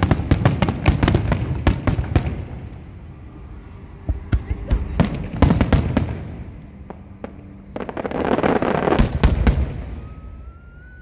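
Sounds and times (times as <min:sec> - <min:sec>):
fireworks bangs: 0:00.0 - 0:02.8, 0:04.0 - 0:11.0
fireworks crackling: 0:00.0 - 0:03.2, 0:04.0 - 0:11.0.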